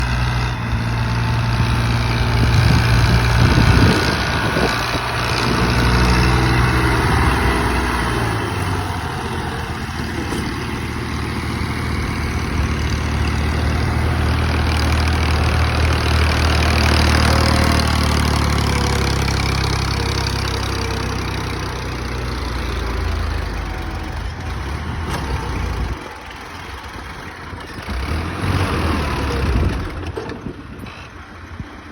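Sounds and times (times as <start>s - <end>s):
tractor engine running hard: 0.0s - 31.9s.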